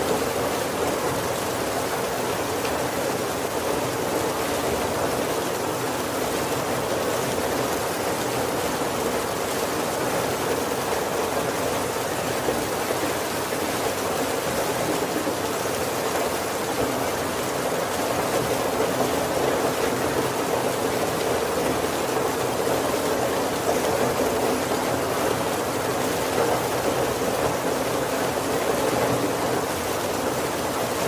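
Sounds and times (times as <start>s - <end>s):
heavy rain on a wooden roof: 0.0s - 31.0s.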